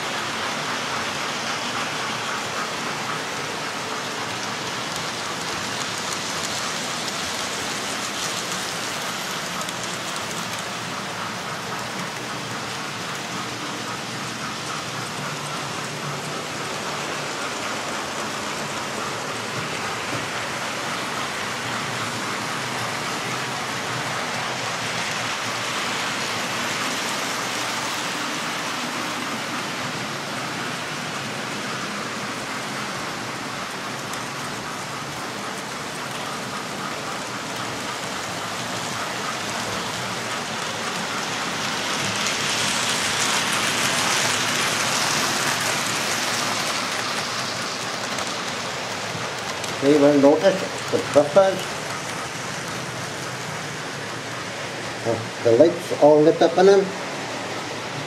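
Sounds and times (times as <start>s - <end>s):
model train wheels rattling on track: 0.0s - 57.0s.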